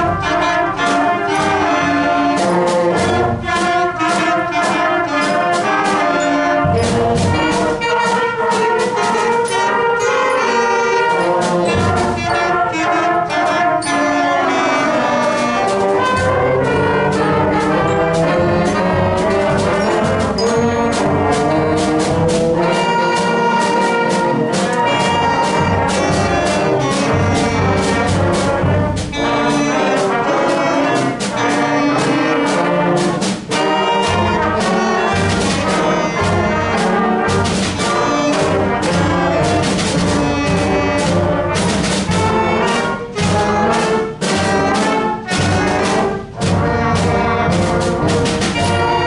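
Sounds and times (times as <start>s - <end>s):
concert band playing: 0.0s - 49.0s.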